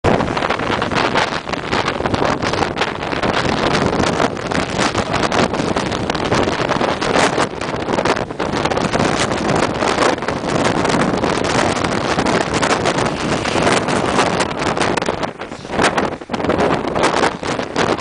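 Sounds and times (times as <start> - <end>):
wind buffeting microphone: 0.0 - 18.0
jet engines roaring: 0.1 - 18.0.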